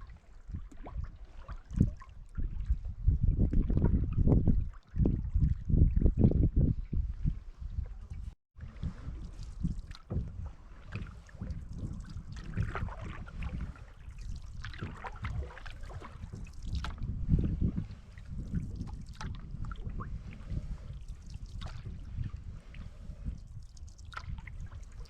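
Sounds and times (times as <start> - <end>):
water splashing around canoe: 0.0 - 6.3, 7.0 - 25.0
wind buffeting microphone: 0.0 - 25.0.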